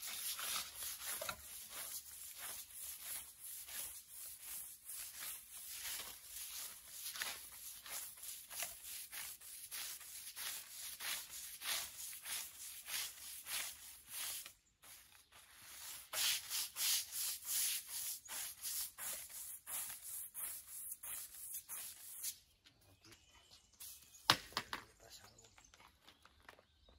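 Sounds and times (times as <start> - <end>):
brush scrubbing wet shutter: 0.0 - 22.3.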